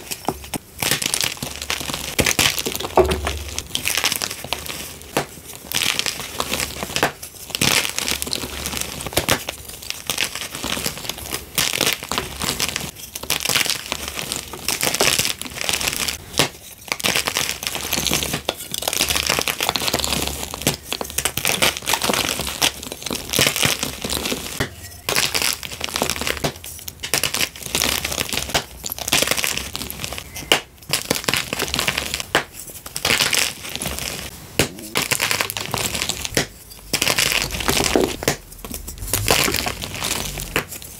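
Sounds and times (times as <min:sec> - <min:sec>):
dry crunching of chalk: 0:00.0 - 0:40.9.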